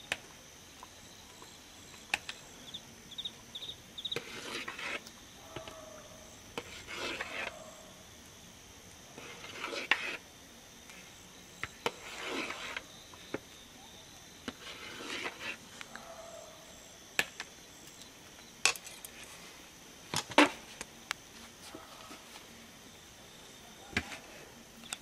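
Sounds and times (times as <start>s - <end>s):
high insect chirr: 0.2s - 25.0s.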